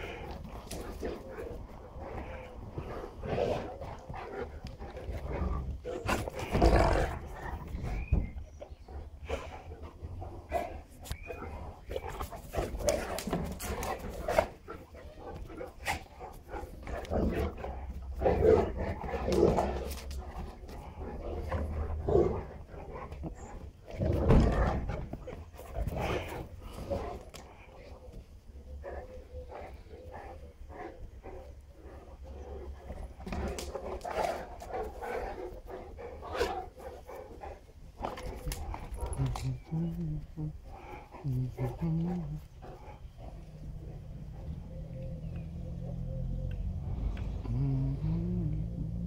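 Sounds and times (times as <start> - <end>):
dogs growling: 0.0 - 49.0.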